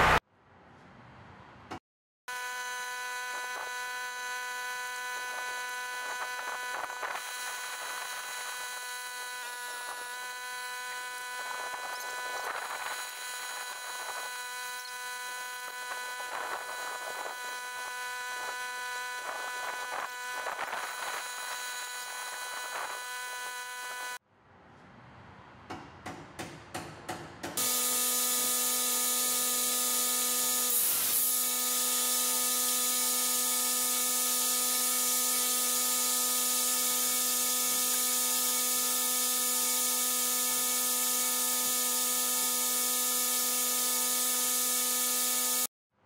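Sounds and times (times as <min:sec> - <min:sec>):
electric motor buzz: 0:02.3 - 0:24.2, 0:27.6 - 0:45.7.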